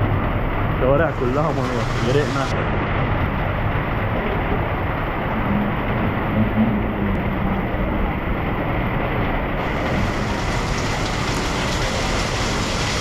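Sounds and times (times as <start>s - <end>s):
heavy rain pouring: 0.0s - 13.0s
low rumble: 0.0s - 13.0s.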